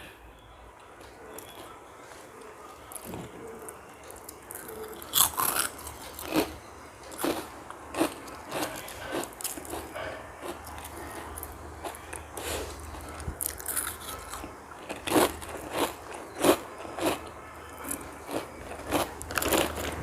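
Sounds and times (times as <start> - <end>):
person chewing potato chips: 2.9 - 20.0.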